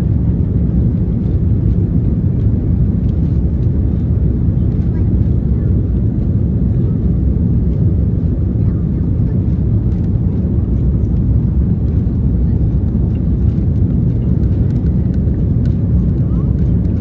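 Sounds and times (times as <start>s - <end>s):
jet engines rumbling during takeoff: 0.0s - 17.0s.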